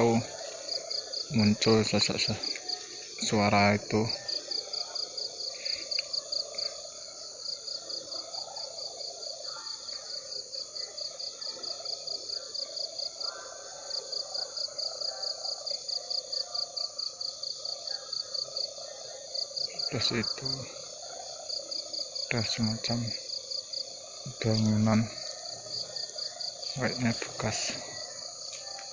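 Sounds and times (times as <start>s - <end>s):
frog chorus: 0.0s - 28.9s
pulsing insect chirp: 0.0s - 28.9s.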